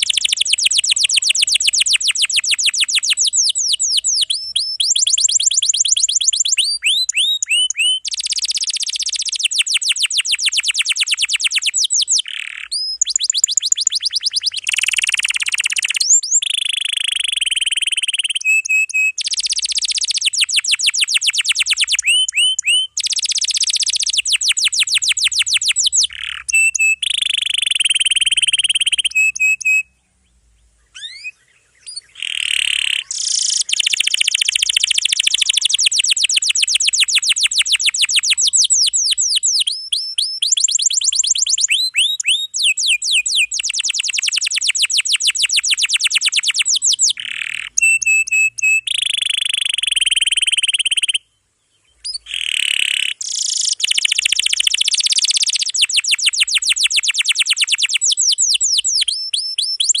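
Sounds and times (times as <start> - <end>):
canary singing fast rolls: 0.0 - 29.8, 31.0 - 51.2, 52.0 - 60.0.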